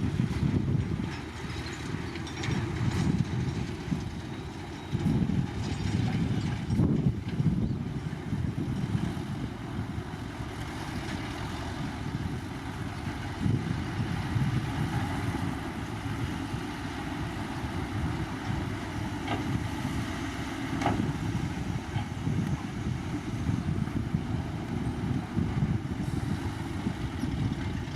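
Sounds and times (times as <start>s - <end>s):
diesel machinery rumbling: 0.0s - 27.9s.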